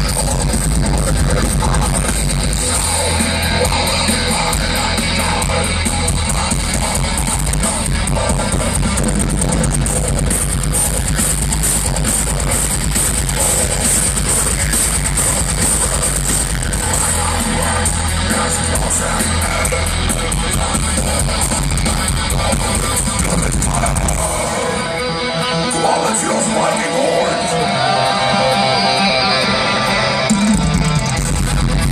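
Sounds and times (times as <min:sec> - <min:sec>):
distorted guitars: 0:00.0 - 0:31.9
drums: 0:00.0 - 0:31.9
heavy metal band playing live: 0:00.0 - 0:31.9.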